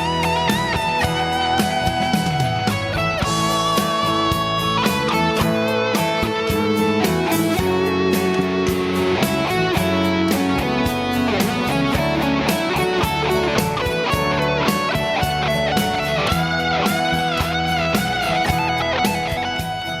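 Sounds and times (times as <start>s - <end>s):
distorted electric guitar lead: 0.0s - 20.0s.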